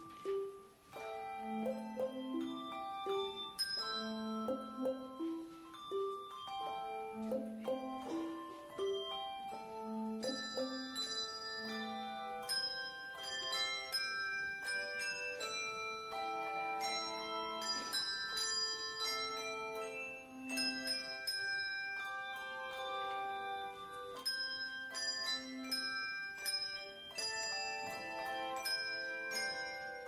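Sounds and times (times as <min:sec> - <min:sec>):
handbell choir playing: 0:00.0 - 0:30.0.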